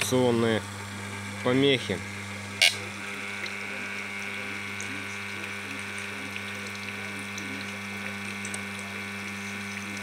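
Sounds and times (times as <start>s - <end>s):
pump humming: 0.0s - 10.0s.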